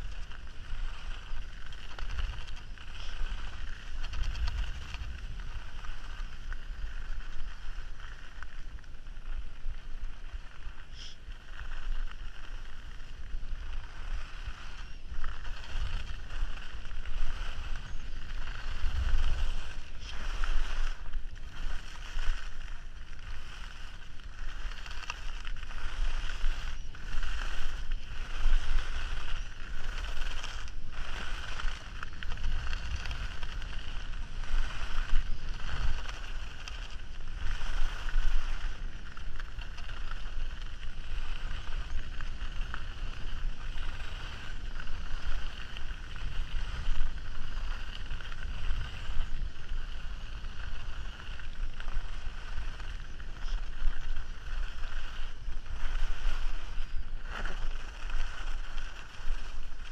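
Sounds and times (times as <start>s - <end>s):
wind buffeting microphone: 0.0s - 9.6s, 13.0s - 59.9s
skis scraping on snow: 0.0s - 59.9s.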